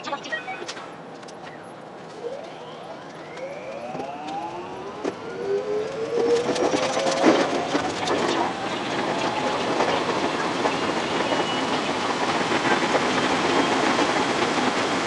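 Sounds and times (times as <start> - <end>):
wheel clatter over rail joints: 0.7 - 15.0
electric train motors whining: 1.9 - 15.0.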